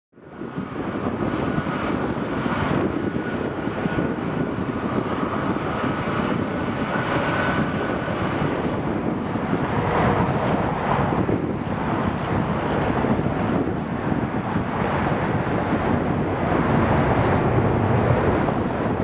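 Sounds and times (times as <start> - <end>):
jet engines running: 0.2 - 19.0.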